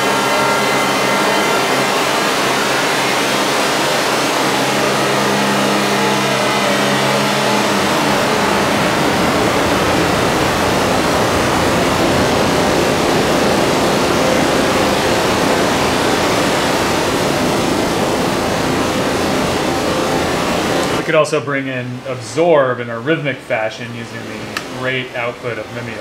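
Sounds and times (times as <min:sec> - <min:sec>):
held low synth tones: 0:00.0 - 0:21.4
modular synthesizer noisy wash: 0:00.0 - 0:26.0.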